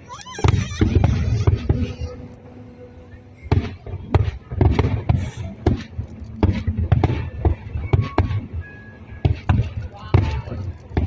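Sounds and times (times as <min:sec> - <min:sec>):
fireworks bursting in bangs: 0:00.3 - 0:02.3, 0:03.5 - 0:11.0.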